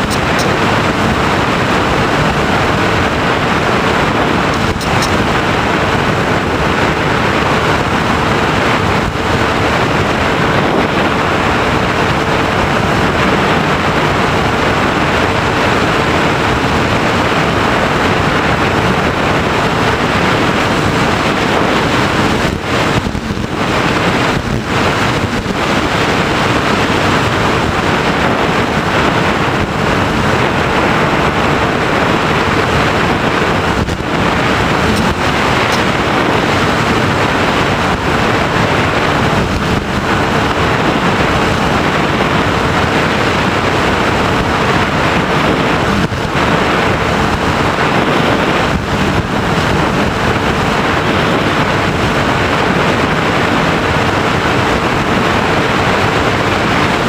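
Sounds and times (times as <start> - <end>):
propeller motor hum: 0.0 - 57.0
wind rush on microphone: 0.0 - 57.0.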